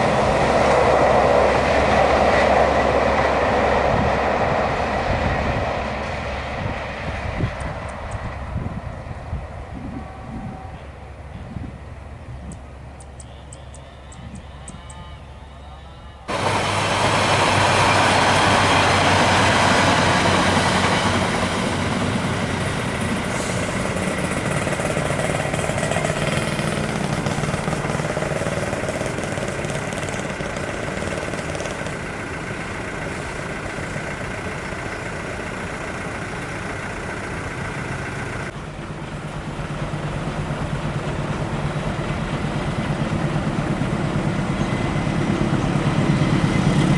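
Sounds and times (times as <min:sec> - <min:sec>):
train wheels rumbling on rails: 0:00.0 - 0:14.8, 0:16.3 - 0:46.9
diesel locomotive engine: 0:00.0 - 0:46.9.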